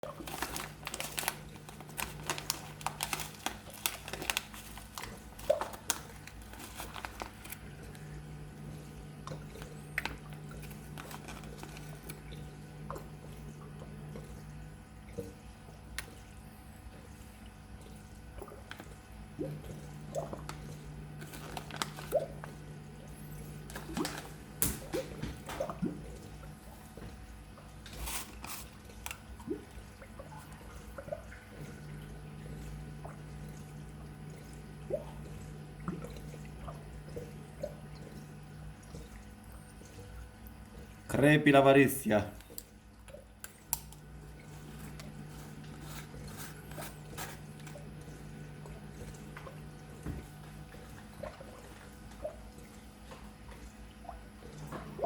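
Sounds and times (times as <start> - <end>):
water drips and splashes: 0.0 - 41.2, 42.3 - 55.0
low pump hum: 0.0 - 55.0.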